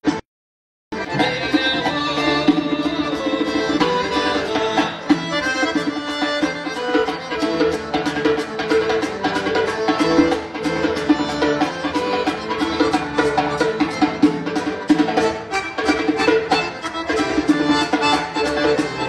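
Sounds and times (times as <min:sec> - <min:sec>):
accordion dance music: 0:00.0 - 0:00.2, 0:00.9 - 0:19.0.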